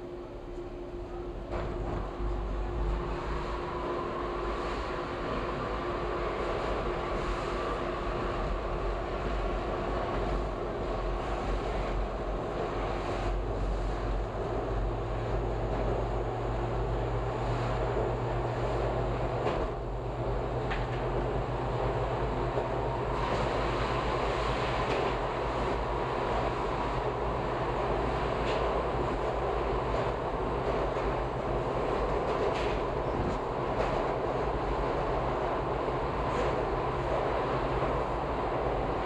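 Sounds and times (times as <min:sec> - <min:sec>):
subway train rumbling in tunnel: 0:00.0 - 0:39.0.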